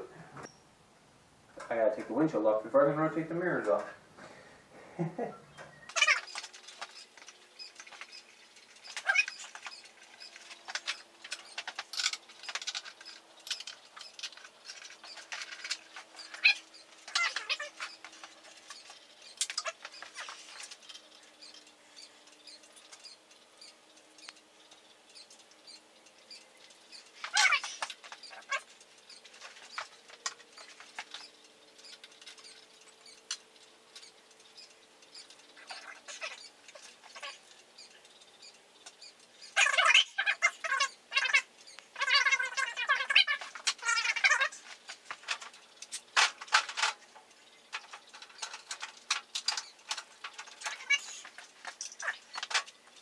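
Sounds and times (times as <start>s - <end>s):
faint steady hum: 0.0s - 53.0s
clinks and rattles of hand tools: 5.9s - 53.0s.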